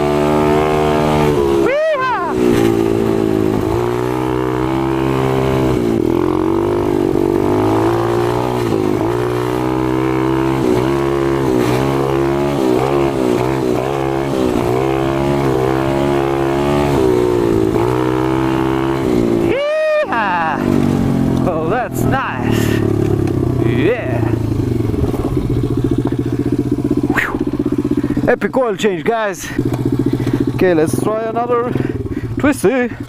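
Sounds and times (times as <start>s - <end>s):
motorbike engine revving: 0.0s - 33.0s.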